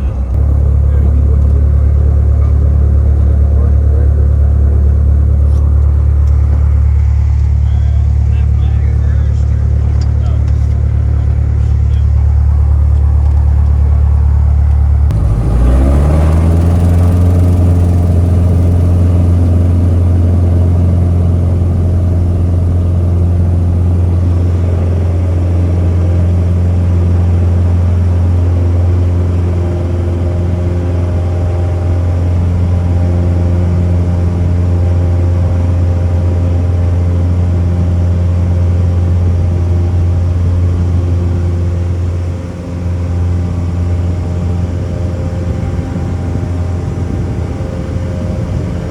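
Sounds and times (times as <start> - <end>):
aircraft engine drone: 0.0 - 48.9.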